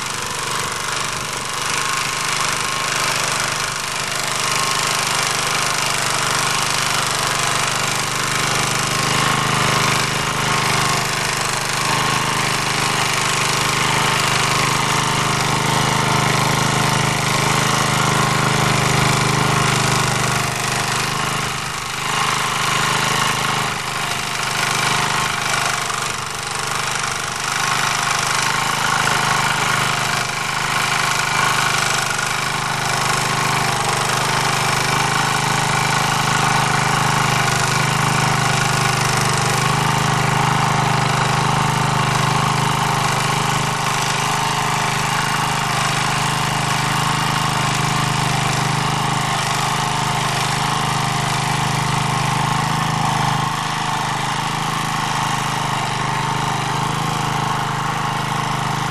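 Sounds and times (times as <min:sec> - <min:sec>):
rotary tiller working soil: 0:00.0 - 0:58.9
tractor engine running: 0:00.0 - 0:58.9.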